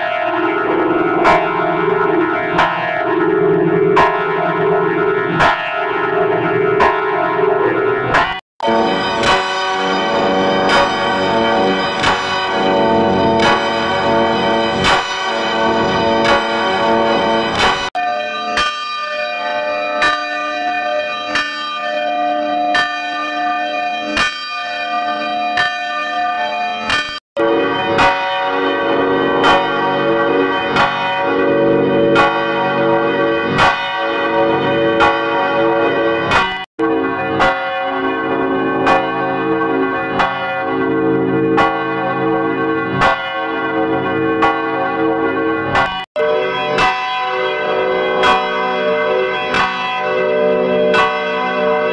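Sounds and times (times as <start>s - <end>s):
church bells ringing: 0.0s - 51.9s.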